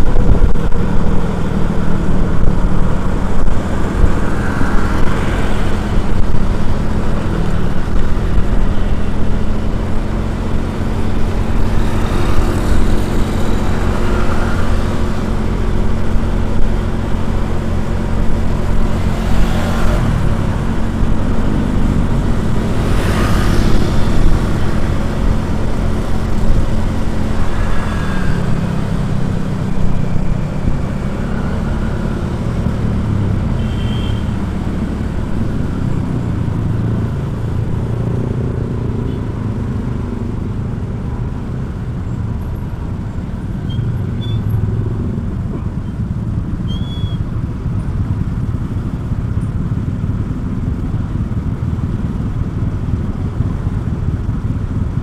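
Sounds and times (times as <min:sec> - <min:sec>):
vehicle engine and road noise: 0:00.0 - 0:55.0
vehicles passing: 0:00.0 - 0:55.0.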